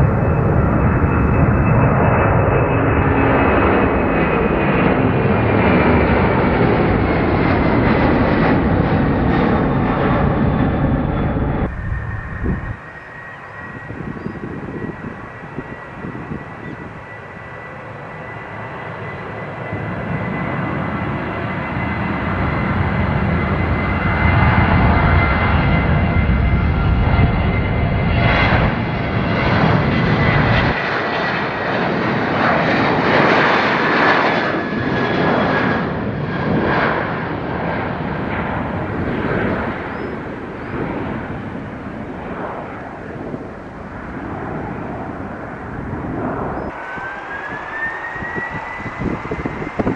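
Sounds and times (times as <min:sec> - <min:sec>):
jet engines whining and roaring: 0:00.0 - 0:49.9.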